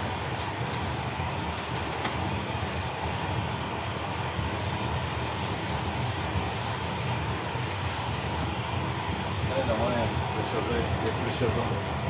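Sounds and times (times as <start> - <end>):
cockpit air and machinery noise: 0.0 - 12.0.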